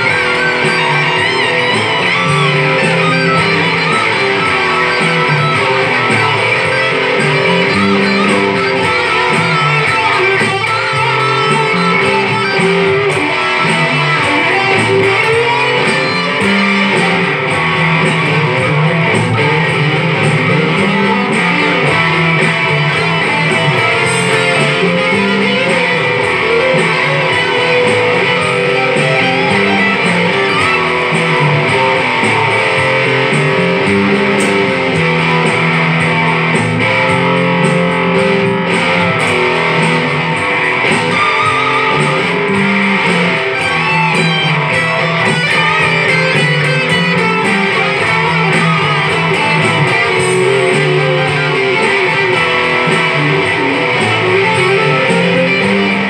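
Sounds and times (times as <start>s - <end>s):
electric bass line: 0.0s - 56.0s
strummed guitar: 0.0s - 56.0s.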